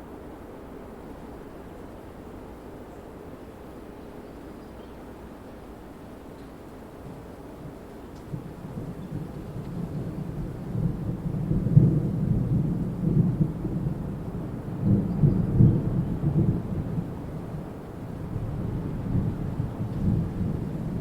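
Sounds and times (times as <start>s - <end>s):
wind gusting through trees: 0.0s - 21.0s.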